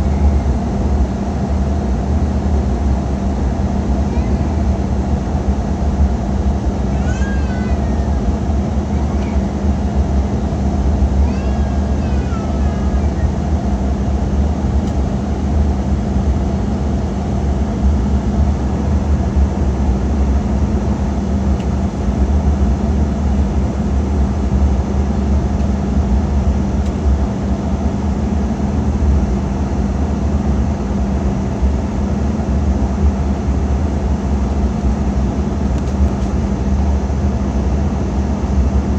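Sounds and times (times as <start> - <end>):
jet cabin engine rumble: 0.0 - 38.9.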